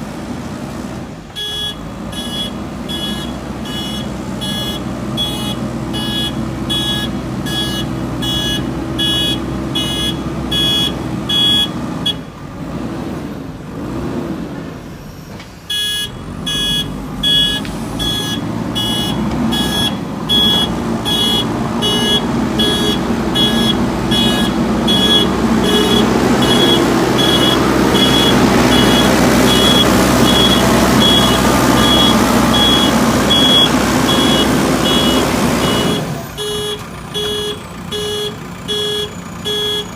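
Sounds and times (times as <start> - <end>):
backhoe diesel engine running: 0.0 - 12.7, 14.6 - 39.9
reversing alarm beeping: 1.4 - 12.2, 15.7 - 39.9.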